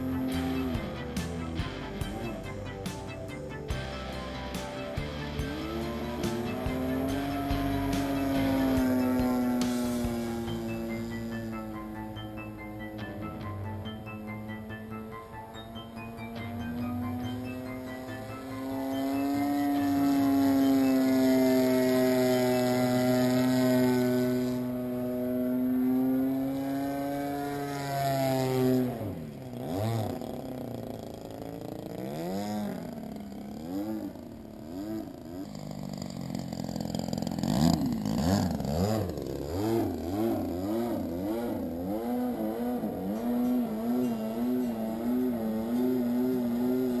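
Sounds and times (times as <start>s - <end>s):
model airplane engine buzzing: 0.0s - 47.0s.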